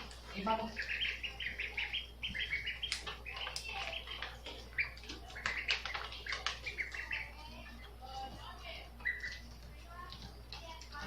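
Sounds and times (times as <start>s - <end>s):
young ducks peeping: 0.0s - 11.0s.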